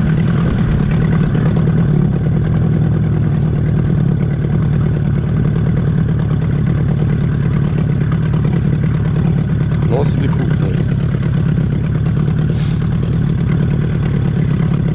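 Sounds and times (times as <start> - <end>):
outboard motor running: 0.0 - 14.9.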